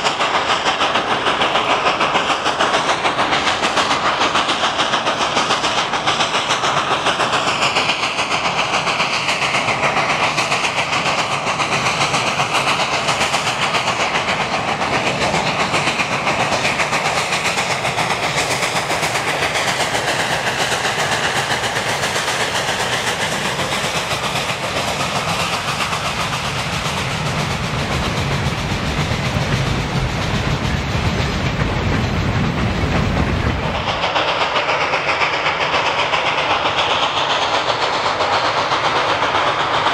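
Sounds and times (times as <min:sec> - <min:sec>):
freight cars rolling on track: 0:00.0 - 0:39.9
steam locomotive exhaust beat: 0:00.0 - 0:39.9.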